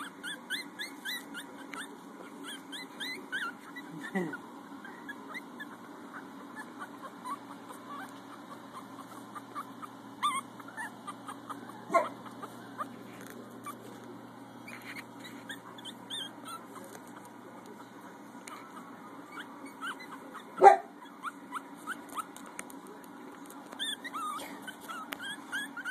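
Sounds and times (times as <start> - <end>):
puppies whimpering and squeaking: 0.0 - 22.6, 23.4 - 25.9.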